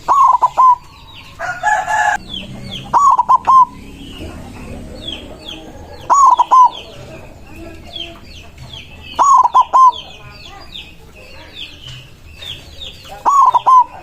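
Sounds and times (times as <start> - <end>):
dove cooing: 0.0 - 11.6, 12.4 - 14.0
small birds chirping: 0.0 - 14.0.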